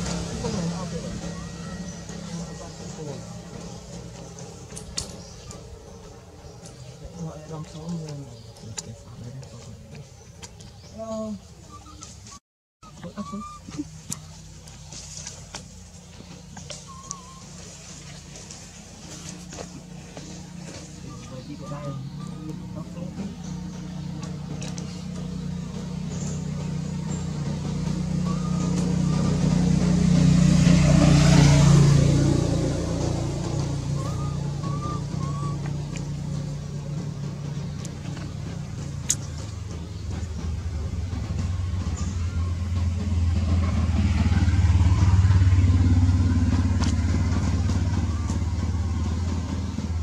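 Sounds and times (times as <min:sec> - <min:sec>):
vehicle engine passing: 0:00.0 - 0:50.0.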